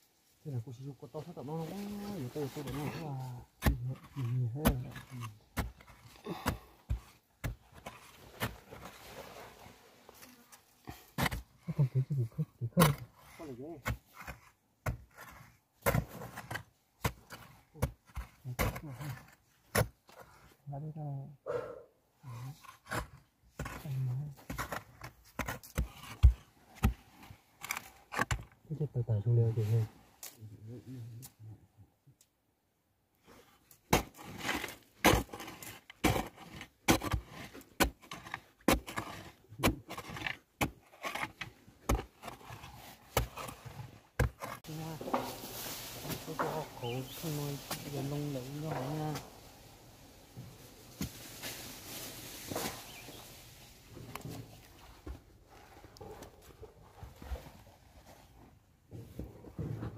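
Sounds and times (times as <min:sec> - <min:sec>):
digging knocks and scrapes in soil: 0:00.0 - 0:20.9, 0:22.2 - 0:31.4, 0:33.2 - 0:59.9.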